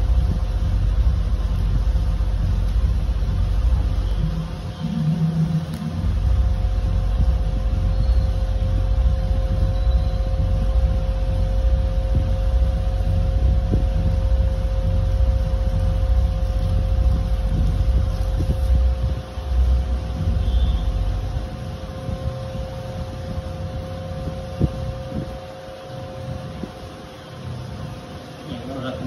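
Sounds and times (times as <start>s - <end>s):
machinery rumble and hum: 0.0s - 29.0s.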